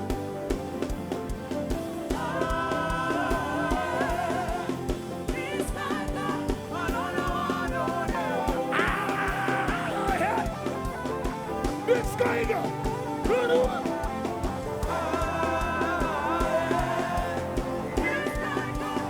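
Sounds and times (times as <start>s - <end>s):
steady kick drum: 0.0s - 19.0s
worship band playing: 0.0s - 19.0s.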